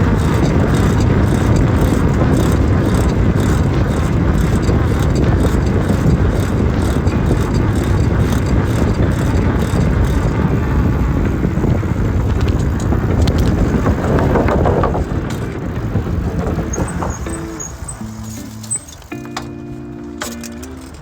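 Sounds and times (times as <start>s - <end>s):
low rumble of ride: 0.0s - 21.0s
wind buffeting microphone: 0.0s - 21.0s.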